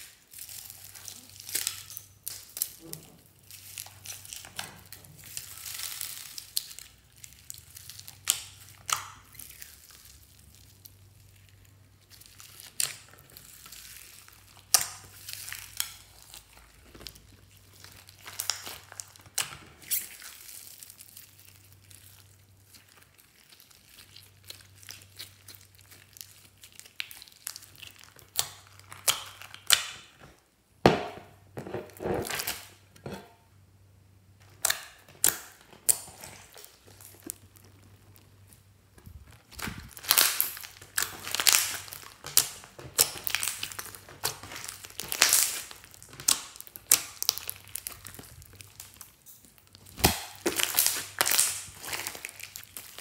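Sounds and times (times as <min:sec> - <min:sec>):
slime crackling and popping: 0:00.0 - 0:33.2, 0:34.4 - 0:53.0.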